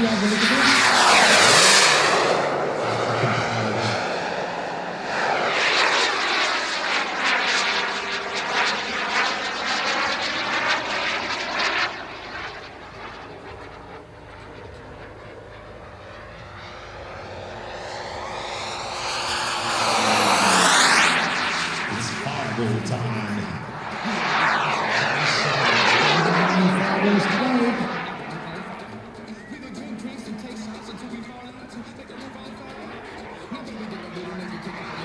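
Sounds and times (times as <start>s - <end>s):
model jet turbine flying past: 0.0s - 35.0s.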